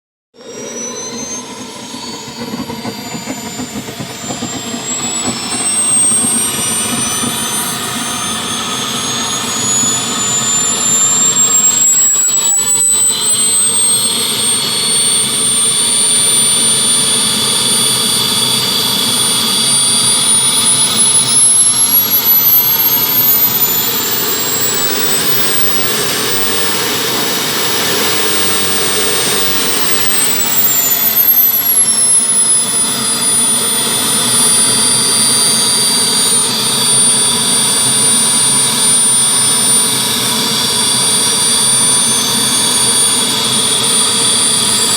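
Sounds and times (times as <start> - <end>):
turbine whine: 0.3 - 44.9
jet rushing roar: 0.4 - 44.9.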